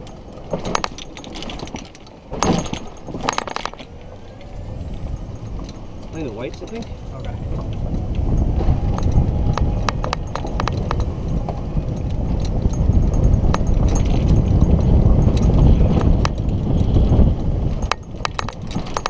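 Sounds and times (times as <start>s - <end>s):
low rumble of wind and wheels: 0.0s - 19.0s
sharp clicks and rattles: 0.0s - 19.0s.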